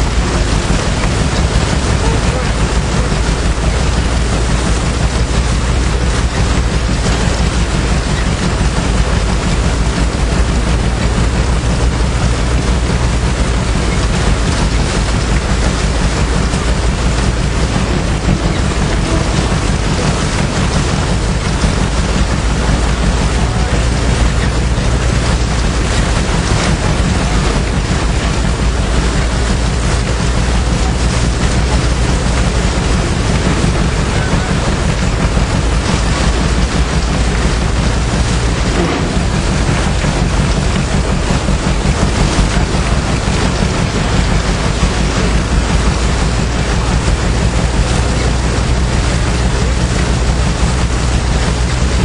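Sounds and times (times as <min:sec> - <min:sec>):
threshing machine running: 0:00.0 - 0:52.0.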